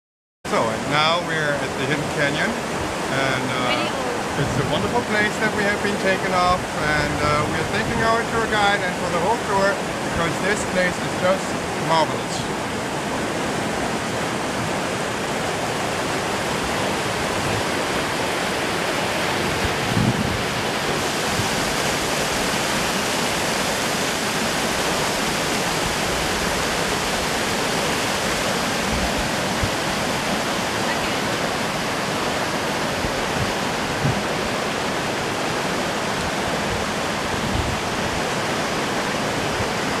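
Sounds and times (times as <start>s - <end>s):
river rapids roaring: 0.5s - 40.0s.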